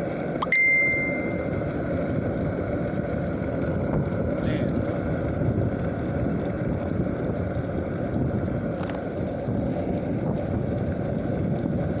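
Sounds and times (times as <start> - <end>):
skateboard wheels rolling: 0.0 - 12.0.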